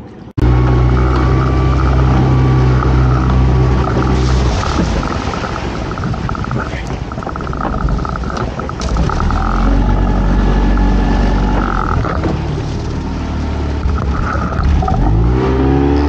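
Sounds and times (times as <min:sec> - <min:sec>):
outboard motor running: 0:00.4 - 0:16.0.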